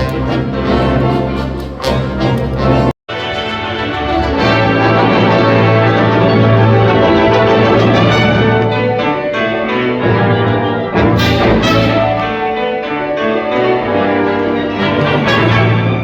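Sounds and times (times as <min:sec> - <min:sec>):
orchestra playing: 0:00.0 - 0:16.0.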